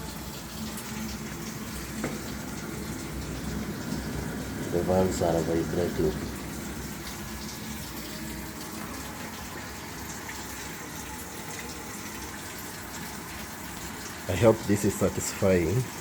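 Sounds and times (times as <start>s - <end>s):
water rushing into washing machine: 0.0s - 16.0s.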